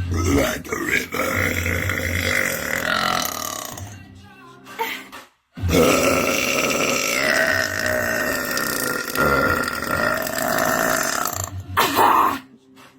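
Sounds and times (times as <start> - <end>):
woman belching: 0.0 - 4.0, 5.7 - 12.4.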